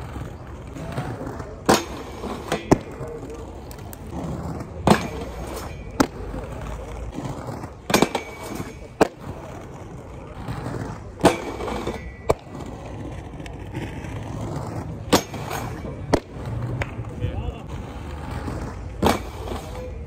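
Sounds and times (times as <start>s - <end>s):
inline skates rolling on concrete: 0.0s - 20.0s
skates clacking on metal bar: 0.7s - 4.2s, 4.8s - 17.2s, 18.4s - 20.0s.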